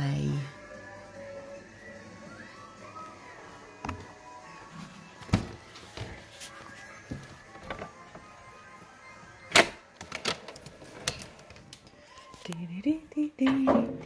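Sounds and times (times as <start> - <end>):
faint video game music: 0.0 - 14.0.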